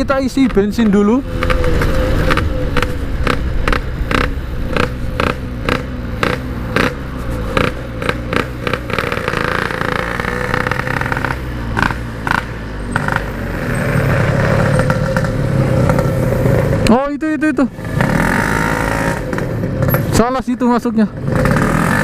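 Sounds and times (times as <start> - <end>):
two-stroke engine at low revs: 0.0 - 22.0.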